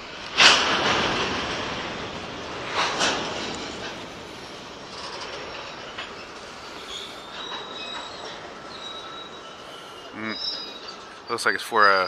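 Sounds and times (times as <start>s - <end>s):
train rumble: 0.0s - 12.0s
train wheels squealing: 2.0s - 12.0s.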